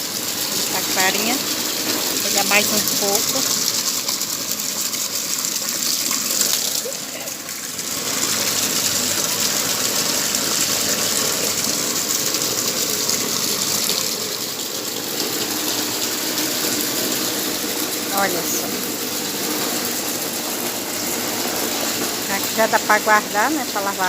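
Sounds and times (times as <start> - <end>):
water gushing into a bucket: 0.0 - 24.0.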